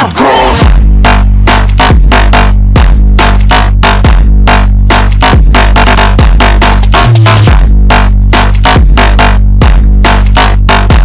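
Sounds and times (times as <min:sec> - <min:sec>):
electronic hip-hop music: 0:00.0 - 0:11.0.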